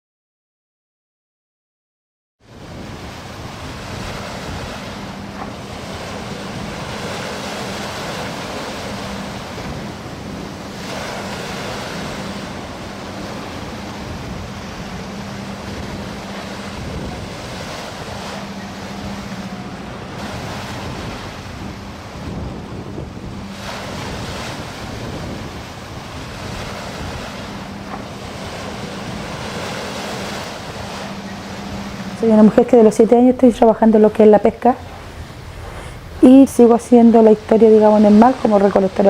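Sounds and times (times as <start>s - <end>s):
sea waves washing on shore: 2.4s - 39.0s
wind buffeting microphone: 2.4s - 39.0s
low steady hum: 2.8s - 39.0s.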